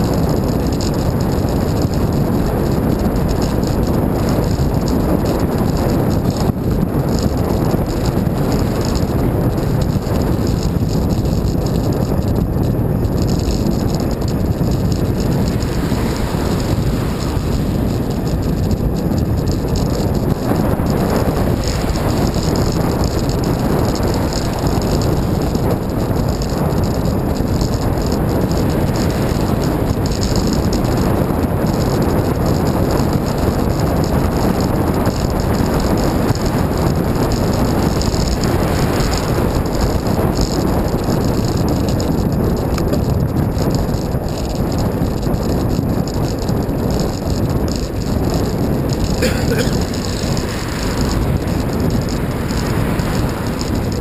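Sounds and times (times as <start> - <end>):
bicycle road rattle: 0.0 - 54.0
wind rush: 0.0 - 54.0.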